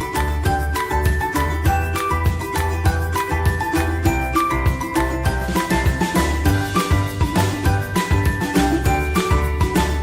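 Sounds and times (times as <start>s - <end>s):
music with pulsing beat: 0.0s - 10.0s.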